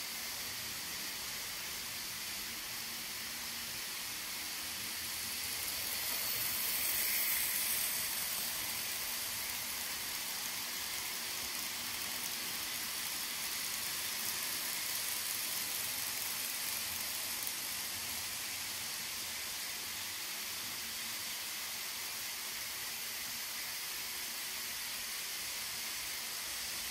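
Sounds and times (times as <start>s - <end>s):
model trains running on track: 0.0s - 26.9s.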